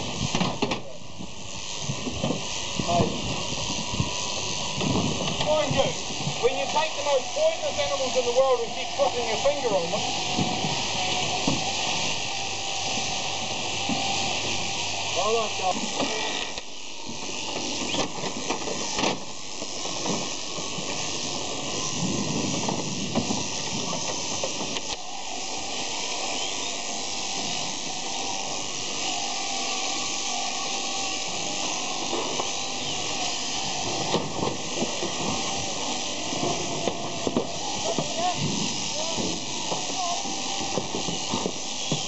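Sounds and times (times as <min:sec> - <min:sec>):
electric shears buzzing: 0:00.0 - 0:42.0.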